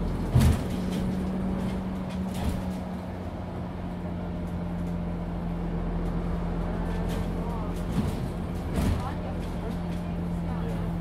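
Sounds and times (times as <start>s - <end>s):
bus drivetrain humming: 0.0s - 11.0s.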